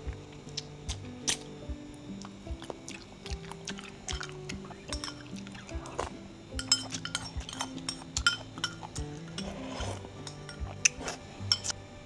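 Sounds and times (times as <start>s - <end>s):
utensils clinking against dishes: 0.0s - 11.8s
soft background music: 0.0s - 12.0s.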